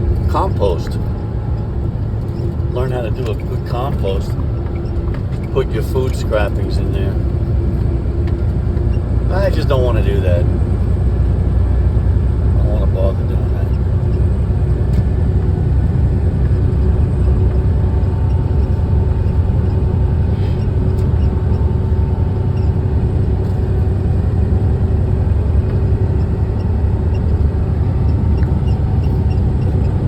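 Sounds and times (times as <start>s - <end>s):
truck engine and road noise: 0.0s - 30.0s.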